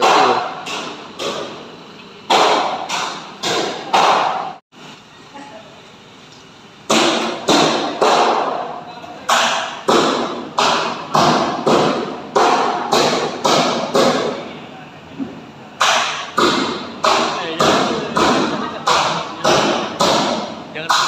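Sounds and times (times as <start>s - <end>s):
hammer blows ringing: 0.0s - 1.7s, 2.3s - 4.6s, 6.9s - 14.5s, 15.8s - 21.0s.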